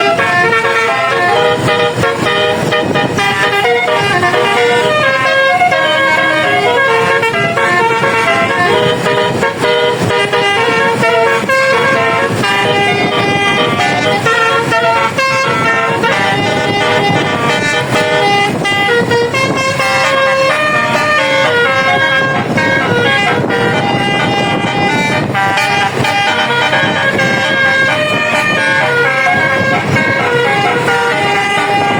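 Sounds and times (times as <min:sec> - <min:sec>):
bus air horn playing a tune: 0:00.0 - 0:31.9.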